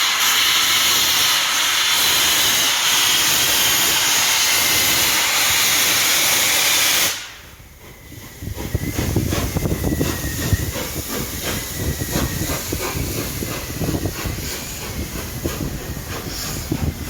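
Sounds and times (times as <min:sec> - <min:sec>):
loud steam hiss: 0:00.0 - 0:17.0.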